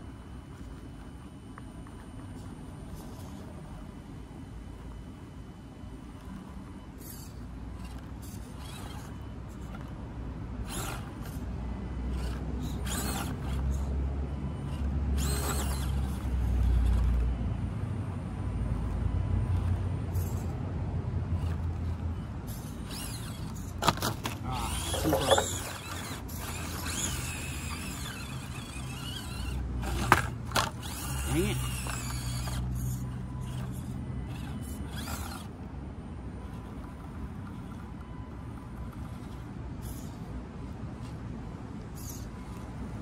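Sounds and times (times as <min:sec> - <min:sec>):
small motor whirring: 0:00.0 - 0:43.0.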